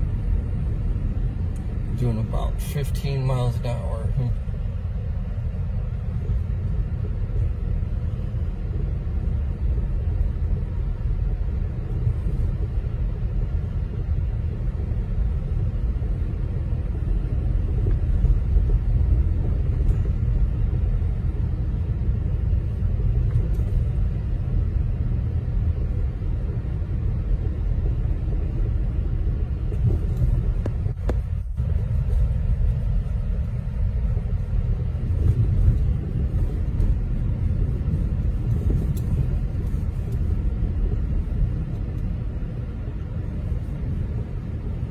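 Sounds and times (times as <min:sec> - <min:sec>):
car driving on snowy road: 0:00.0 - 0:44.9.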